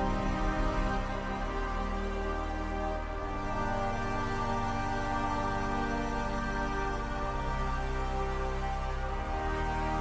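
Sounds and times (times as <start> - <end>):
calm background music: 0.0 - 10.0.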